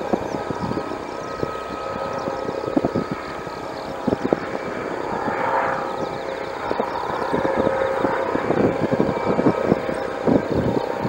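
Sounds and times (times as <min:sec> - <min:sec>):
helicopter rotor noise: 0:00.0 - 0:11.0
helicopter turbine whine: 0:00.0 - 0:11.0.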